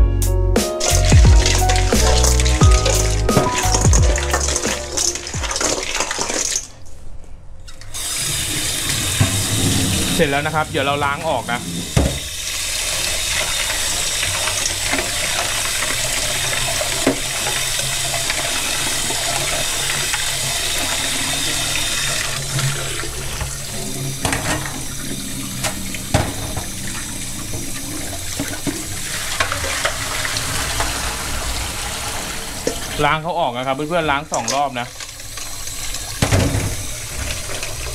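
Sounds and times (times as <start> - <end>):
tap water running into bowl: 0.8 - 6.7, 8.0 - 37.9.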